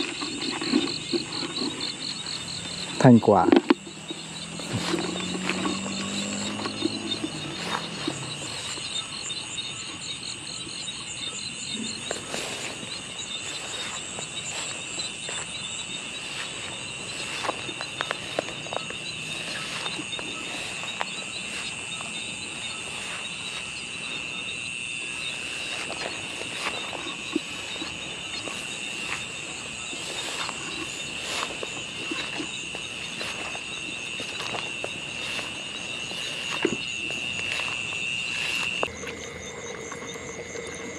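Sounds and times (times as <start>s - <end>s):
insect trill: 0.0s - 40.9s
pulsing insect chirp: 0.0s - 40.9s
footsteps through grass: 3.9s - 9.5s, 12.0s - 39.9s.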